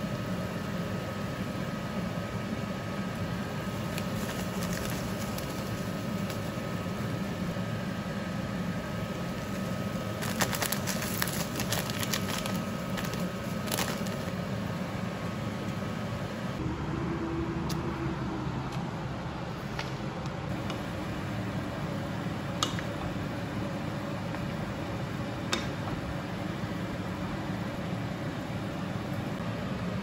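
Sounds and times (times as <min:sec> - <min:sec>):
pan cooking hiss and hum: 0:00.0 - 0:30.0.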